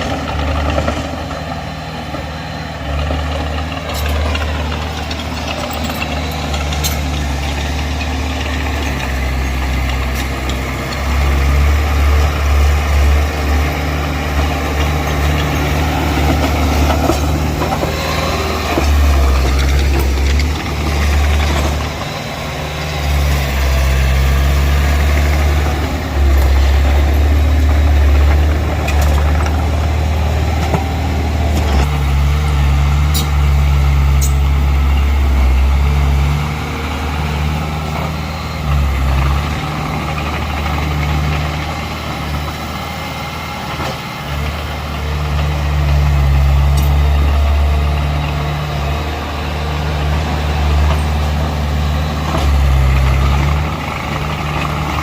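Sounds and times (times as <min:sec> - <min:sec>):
diesel engine of earthmover: 0:00.0 - 0:55.0.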